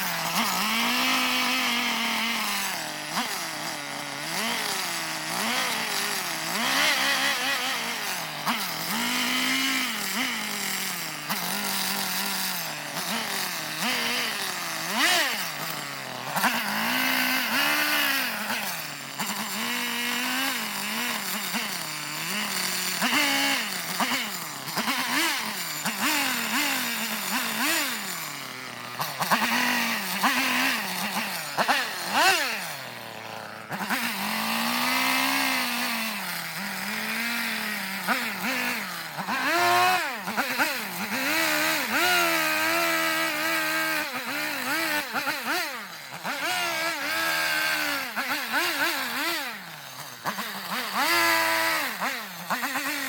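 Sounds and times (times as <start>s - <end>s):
chainsaw revving while cutting wood: 0.0s - 53.0s.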